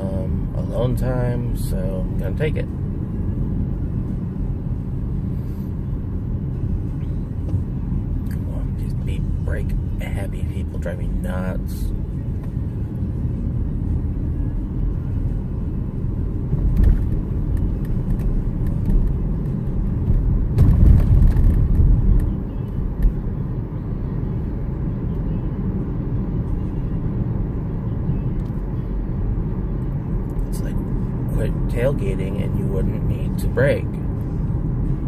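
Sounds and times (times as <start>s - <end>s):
car cabin road and engine noise: 0.0s - 35.0s.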